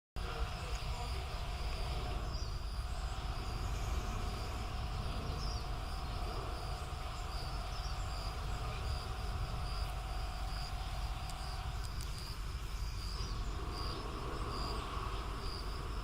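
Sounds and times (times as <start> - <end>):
insects chirping: 0.2 - 16.0
low rumble: 0.2 - 16.0.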